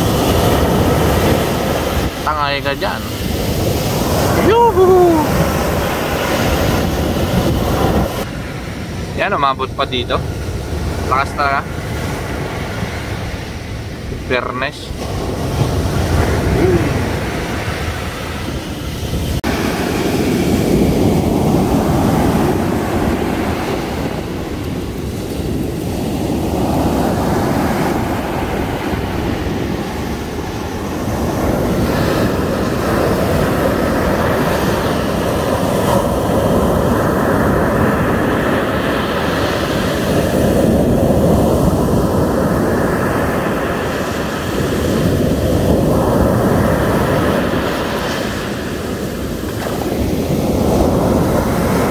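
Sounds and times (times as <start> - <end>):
heavy surf breaking: 0.0 - 51.9.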